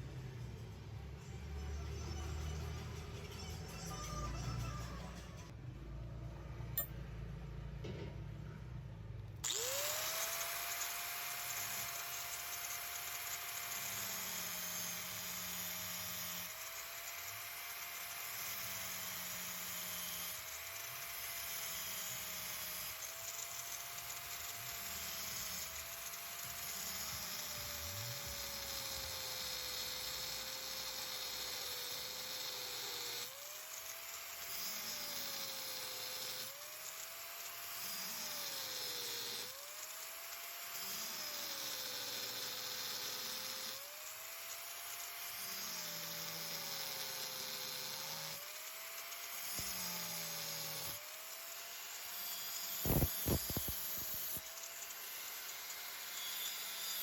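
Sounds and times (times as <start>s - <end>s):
power tool motor whining: 9.4s - 57.0s.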